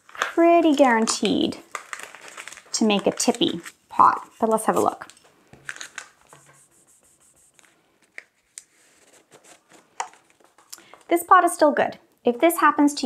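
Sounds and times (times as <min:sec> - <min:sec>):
newspaper rustling: 0:00.0 - 0:11.0.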